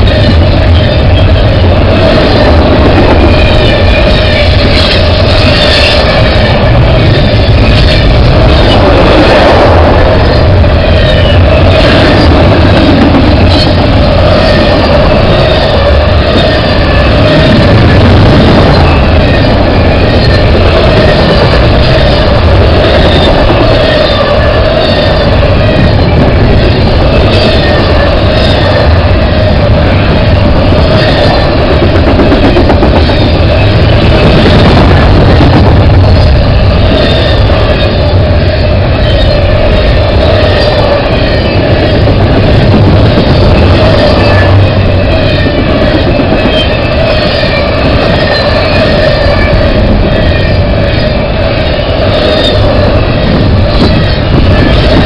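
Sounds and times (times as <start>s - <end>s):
steady high whine: 0.0s - 55.0s
train wheels rumbling and rattling: 0.0s - 55.0s.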